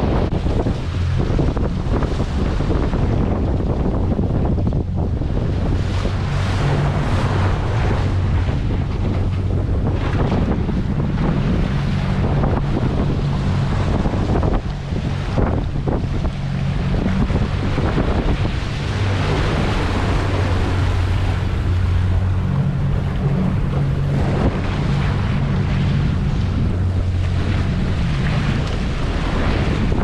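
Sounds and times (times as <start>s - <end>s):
boat engine running: 0.0s - 30.0s
waves washing around hull: 0.0s - 30.0s
wind buffeting microphone: 0.0s - 30.0s.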